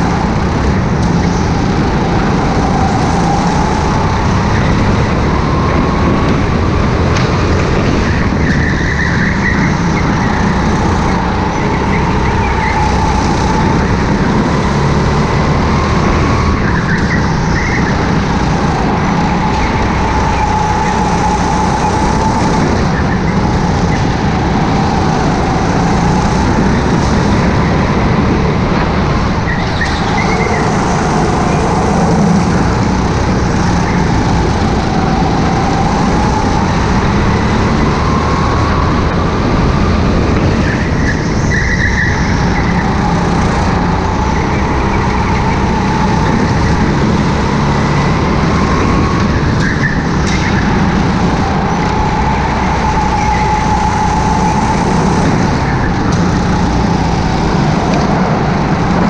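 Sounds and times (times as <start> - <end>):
kart engine running hard: 0.0 - 59.0
wind and vibration noise: 0.0 - 59.0.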